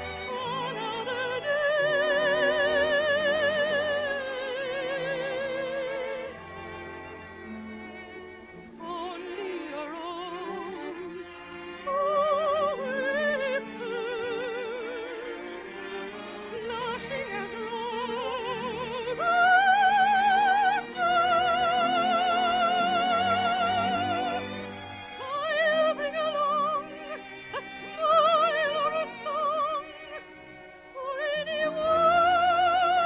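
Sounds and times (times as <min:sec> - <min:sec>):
orchestra playing: 0:00.0 - 0:32.9
operatic soprano singing: 0:00.0 - 0:33.0.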